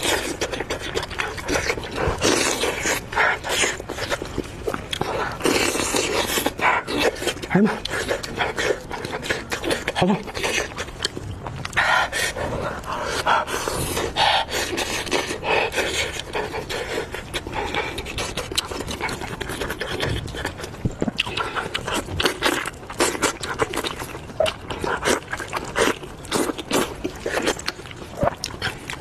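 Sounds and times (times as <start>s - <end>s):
wet chewing and slurping: 0.0s - 29.0s.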